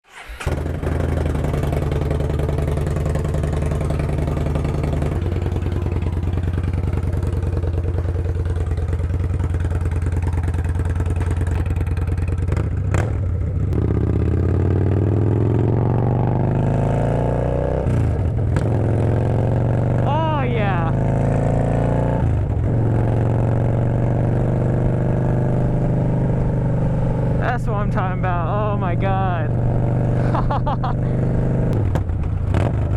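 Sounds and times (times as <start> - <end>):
motorcycle engine with open exhaust: 0.4 - 32.9.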